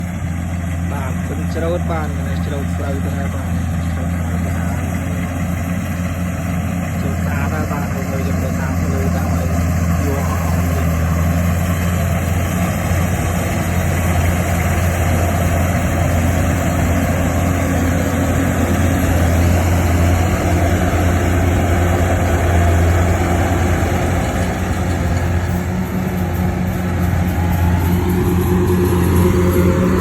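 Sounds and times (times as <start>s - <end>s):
harvester engine drone: 0.0s - 30.0s.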